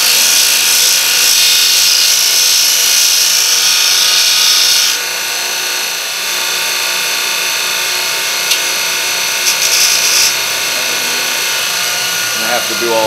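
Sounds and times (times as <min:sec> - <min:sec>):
belt sander grinding metal: 0:00.0 - 0:13.0.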